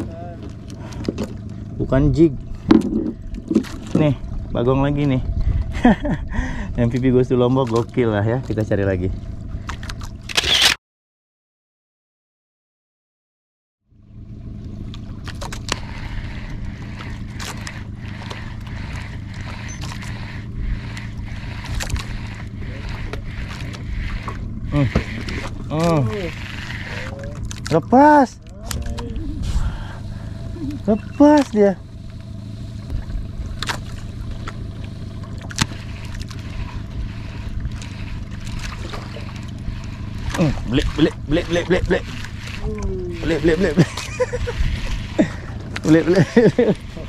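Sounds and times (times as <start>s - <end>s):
water rushing along hull: 0.0s - 10.4s, 14.0s - 47.0s
boat engine running: 0.0s - 10.8s, 13.8s - 47.0s.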